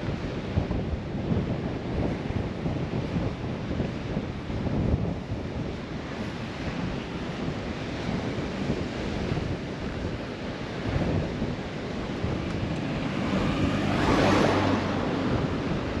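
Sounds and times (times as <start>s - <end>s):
surf washing on beach: 0.0s - 16.0s
wind buffeting microphone: 0.0s - 16.0s.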